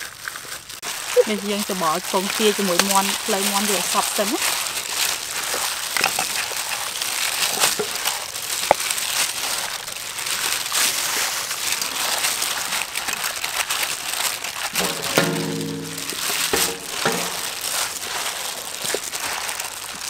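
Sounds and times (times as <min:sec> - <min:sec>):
plastic gloves crinkling: 0:00.0 - 0:20.0.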